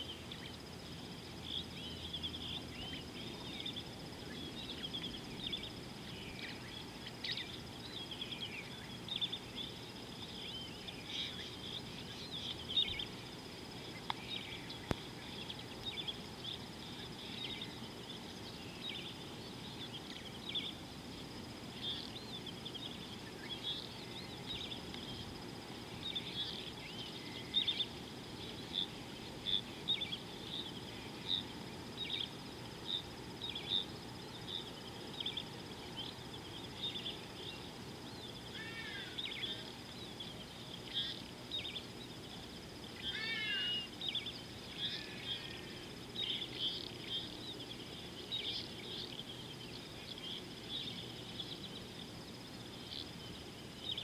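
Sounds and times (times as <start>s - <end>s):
birds chirping: 0.0s - 54.0s
low rural background noise: 0.0s - 54.0s.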